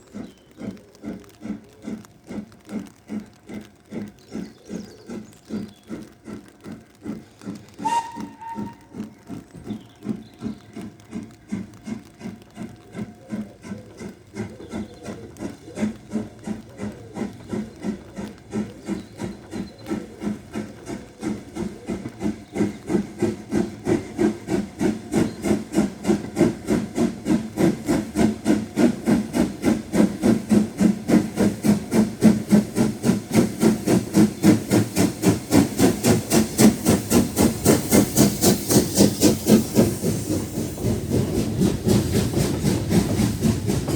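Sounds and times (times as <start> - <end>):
steam locomotive exhaust beats: 0.0 - 43.9
steam hiss: 3.9 - 43.9.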